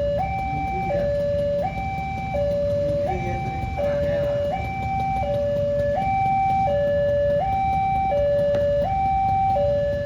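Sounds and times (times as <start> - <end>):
two-tone warning alarm: 0.0 - 10.0.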